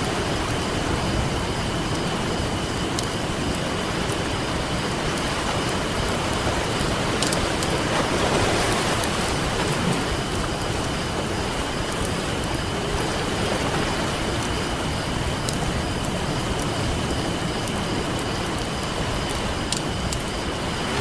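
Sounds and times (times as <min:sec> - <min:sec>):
ocean surf washing: 0:00.0 - 0:21.0
campfire crackling and popping: 0:00.1 - 0:21.0.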